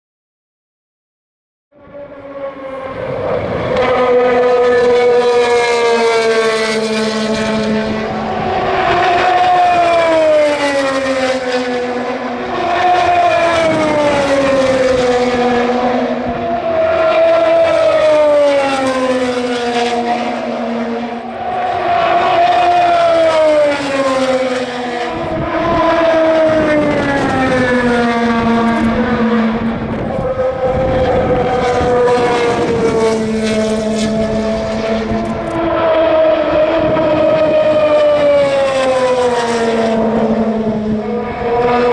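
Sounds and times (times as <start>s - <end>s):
racing car engines passing: 1.8s - 41.9s.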